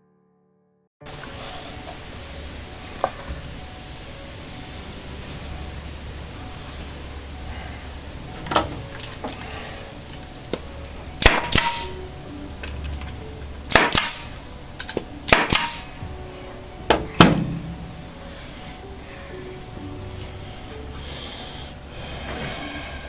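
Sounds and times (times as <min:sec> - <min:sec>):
low steady hum: 0:01.1 - 0:23.0.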